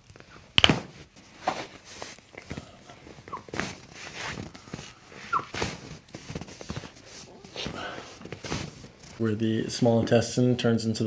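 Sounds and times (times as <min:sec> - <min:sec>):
soft handling and rustling: 0:00.0 - 0:10.5.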